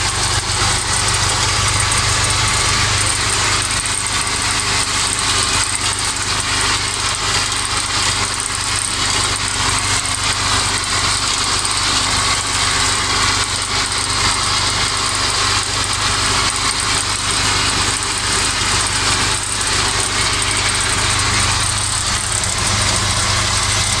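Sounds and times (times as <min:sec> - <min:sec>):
tractor engine and mower running: 0:00.0 - 0:24.0.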